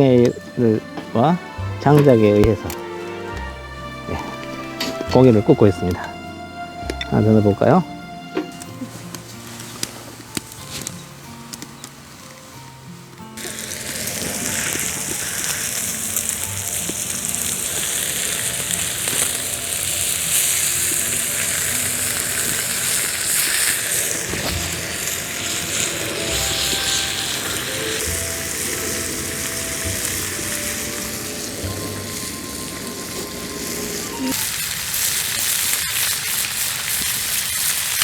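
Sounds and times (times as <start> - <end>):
meat sizzling on hot stone: 0.0 - 7.3, 13.4 - 38.0
faint background music: 0.0 - 34.6.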